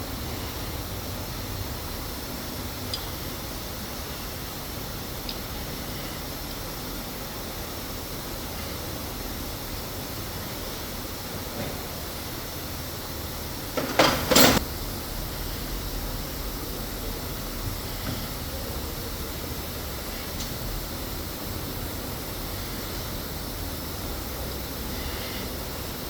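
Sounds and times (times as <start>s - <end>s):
machinery hum: 0.0s - 26.0s.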